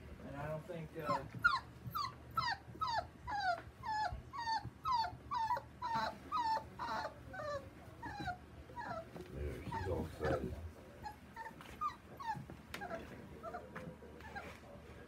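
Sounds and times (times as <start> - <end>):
puppy whining: 1.0 - 14.7.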